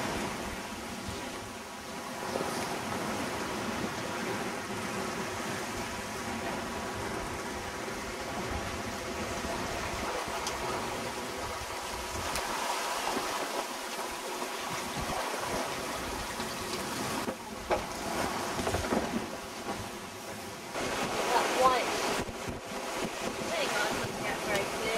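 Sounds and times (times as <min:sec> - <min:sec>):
water rushing along a hull: 0:00.0 - 0:24.9.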